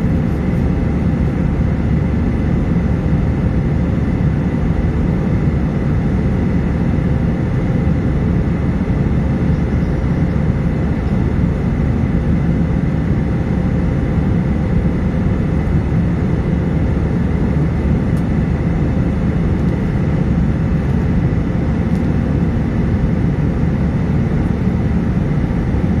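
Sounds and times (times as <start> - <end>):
airliner cabin engine rumble: 0.0 - 26.0
faint steady whine: 0.0 - 26.0.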